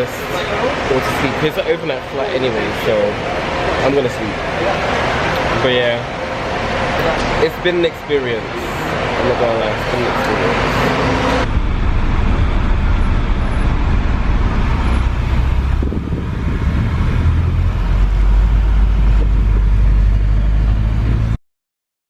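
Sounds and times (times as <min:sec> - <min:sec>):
road noise: 0:00.0 - 0:21.4
vehicle rumble: 0:00.0 - 0:21.4.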